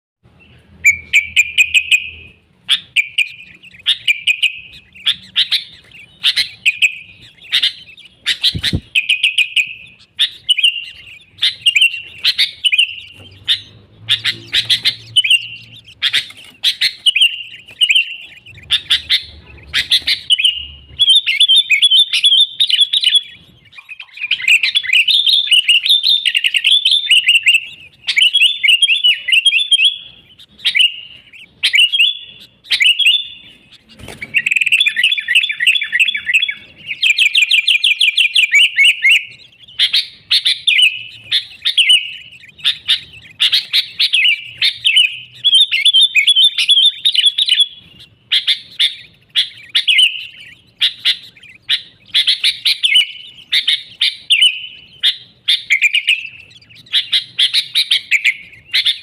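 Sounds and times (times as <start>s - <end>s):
bulbul singing: 0.2s - 59.0s.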